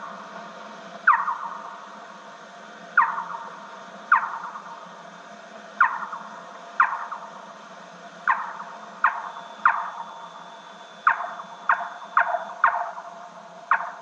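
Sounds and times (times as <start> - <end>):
slowed bat echolocation chirps: 0.0 - 2.1, 2.9 - 5.1, 5.8 - 7.6, 8.2 - 14.0
tape hiss: 0.0 - 14.0.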